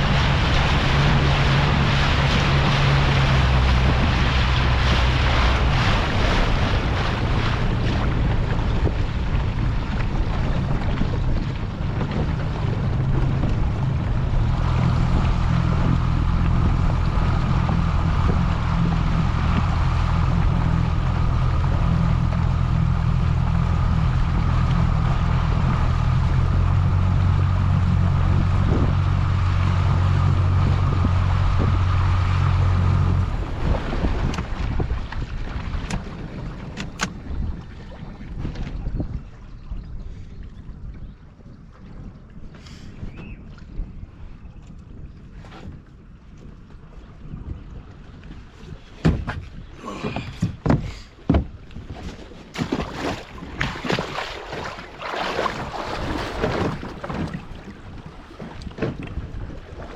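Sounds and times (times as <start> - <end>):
boat motor humming: 0.0 - 59.9
water noise: 0.0 - 59.9
wind on microphone: 0.0 - 59.9.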